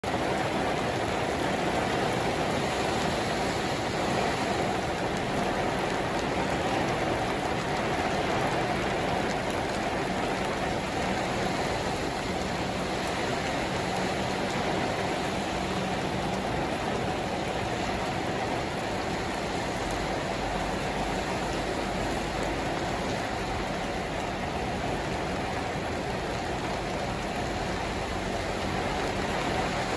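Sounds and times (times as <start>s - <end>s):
heavy rain on asphalt: 0.0s - 29.9s.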